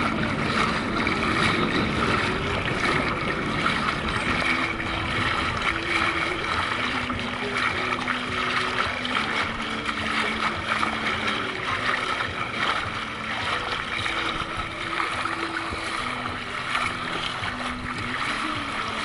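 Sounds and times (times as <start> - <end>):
seawater lapping and sloshing: 0.0 - 19.0.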